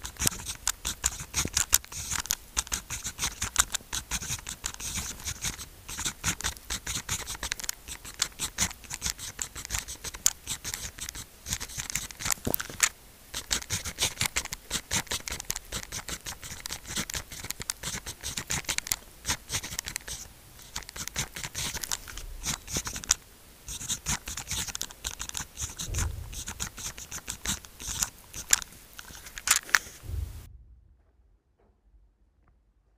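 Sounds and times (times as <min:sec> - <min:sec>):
pen scratching on paper: 0:00.0 - 0:30.0.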